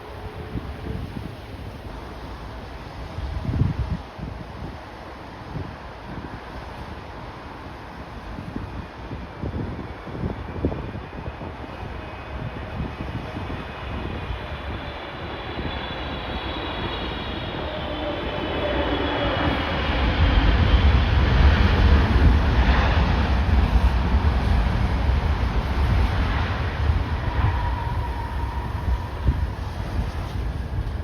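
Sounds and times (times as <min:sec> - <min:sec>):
jet airliner landing: 0:00.0 - 0:31.0
wind buffeting microphone: 0:00.0 - 0:31.0.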